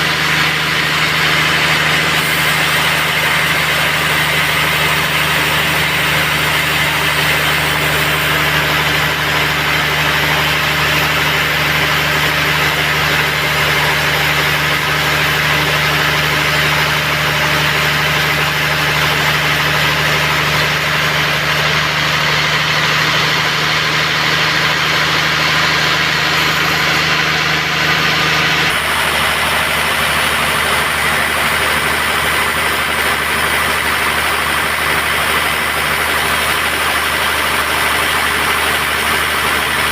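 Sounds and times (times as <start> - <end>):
sawmill machine drone: 0.0 - 39.9.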